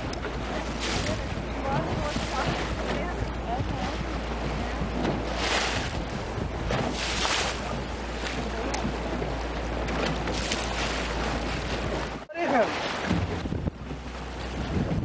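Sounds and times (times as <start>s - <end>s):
sea waves washing: 0.0s - 15.0s
surf breaking on rocks: 0.0s - 15.0s
wind blowing across microphone: 0.0s - 15.0s.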